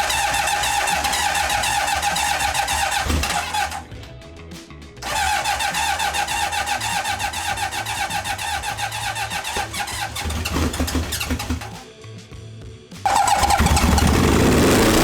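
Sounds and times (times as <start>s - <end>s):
electric starter cranking engine: 0.0s - 4.0s, 5.0s - 11.8s, 13.1s - 15.0s.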